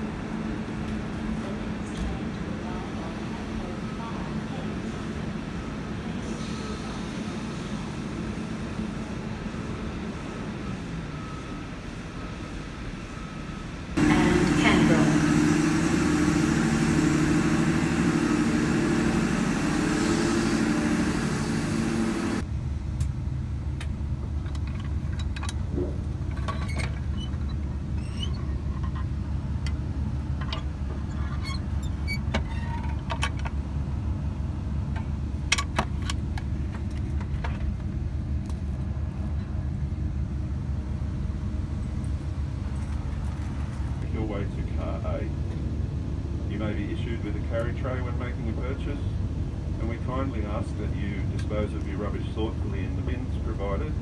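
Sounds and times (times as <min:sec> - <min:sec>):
railcar interior rumble: 0:00.0 - 0:54.0
train hum with pitched tones: 0:00.0 - 0:54.0.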